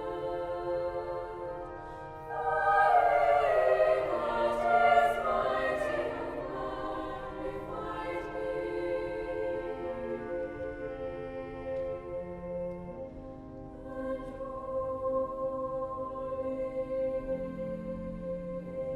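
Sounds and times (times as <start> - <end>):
choir singing held chords: 0.0 - 13.1, 13.7 - 18.9.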